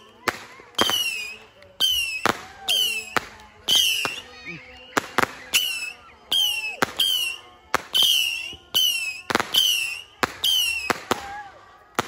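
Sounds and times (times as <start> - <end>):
firework whistles falling: 0.0 - 11.4
firework bangs: 0.0 - 12.0.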